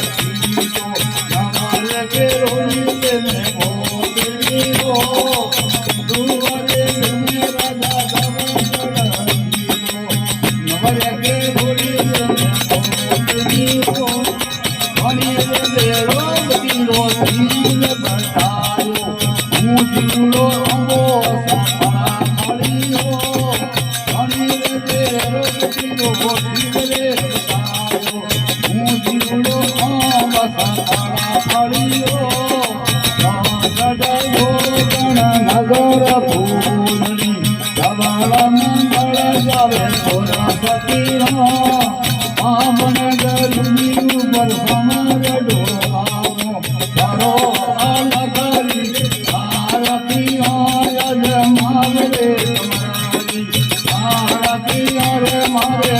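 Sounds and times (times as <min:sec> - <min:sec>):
jingling percussion: 0:00.0 - 0:55.9.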